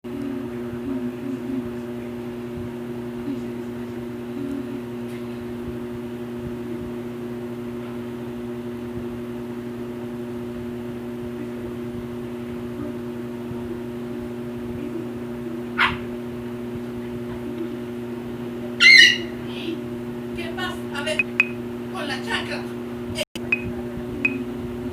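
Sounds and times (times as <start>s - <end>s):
appliance hum: 0.0s - 24.9s.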